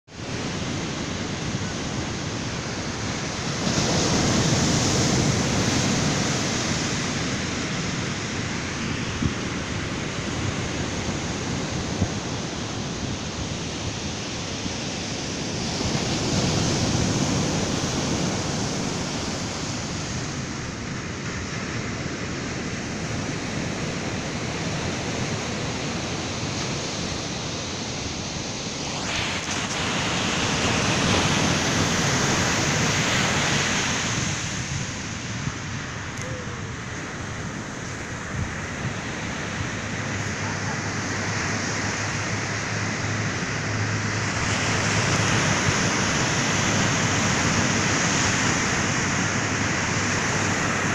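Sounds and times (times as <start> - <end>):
waves breaking on beach: 0.1 - 50.9.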